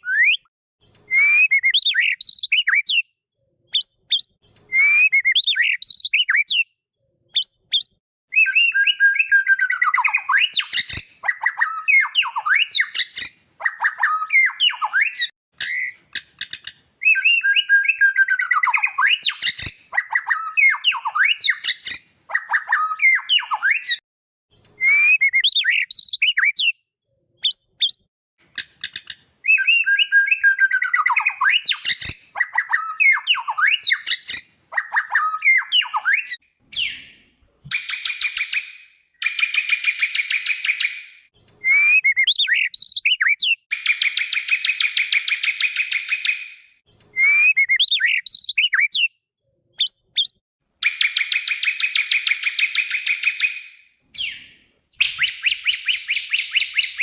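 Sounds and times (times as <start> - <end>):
bird song with buzzy trills: 0.0 - 26.8, 27.4 - 49.2, 49.8 - 57.0.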